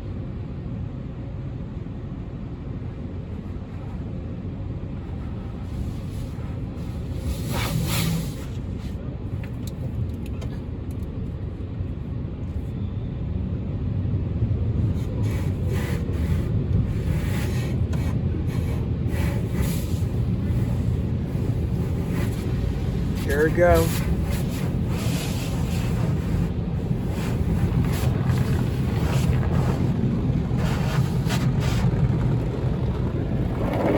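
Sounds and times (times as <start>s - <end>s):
car rumble inside cabin: 0.0s - 33.9s.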